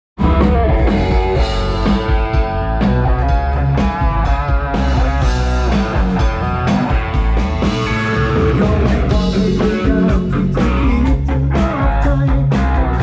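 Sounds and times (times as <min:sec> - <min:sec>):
rock band over loudspeakers: 0:00.2 - 0:13.0.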